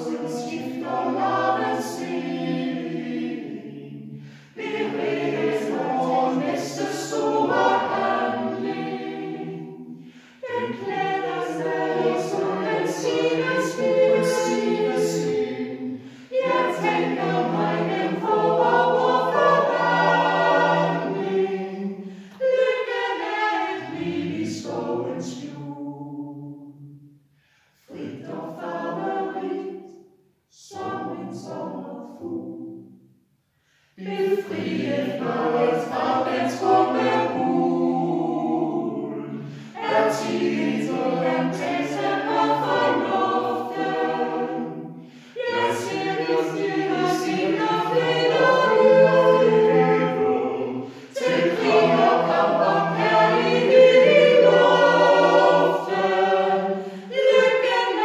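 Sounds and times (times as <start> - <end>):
mixed choir singing a cappella: 0.0 - 33.0, 33.8 - 58.0.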